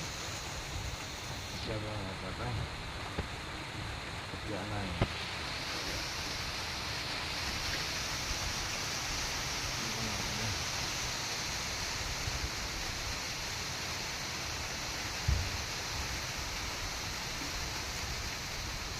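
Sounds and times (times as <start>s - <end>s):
rain falling: 0.0s - 18.9s.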